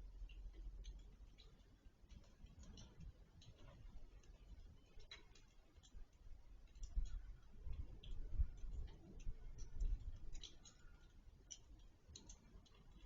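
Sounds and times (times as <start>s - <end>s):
faint irregular clicks: 0.0s - 13.0s.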